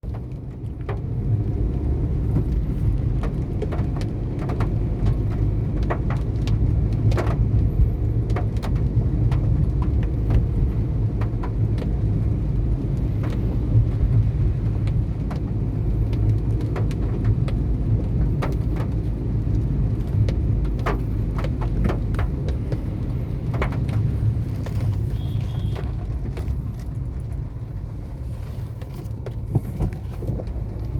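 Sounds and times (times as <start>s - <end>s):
vehicle rumbling on the move: 0.0s - 30.9s.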